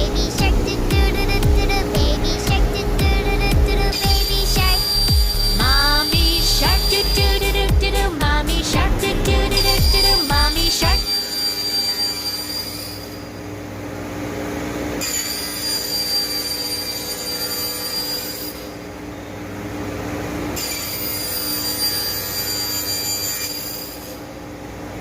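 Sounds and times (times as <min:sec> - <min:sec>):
machine low hum: 0:00.0 - 0:16.9, 0:18.3 - 0:22.4
machine high-pitched whine: 0:00.0 - 0:25.0.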